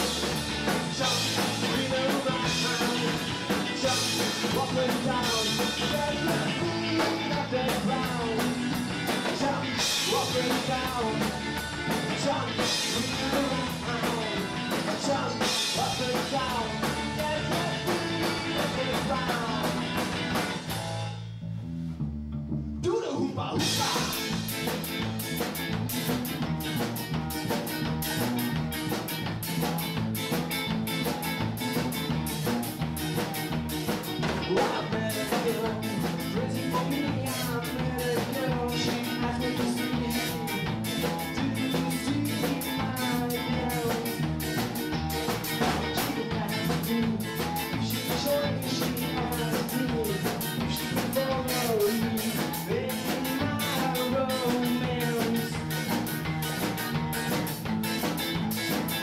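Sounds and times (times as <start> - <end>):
band playing drums and guitar: 0.0 - 21.4, 23.5 - 59.0.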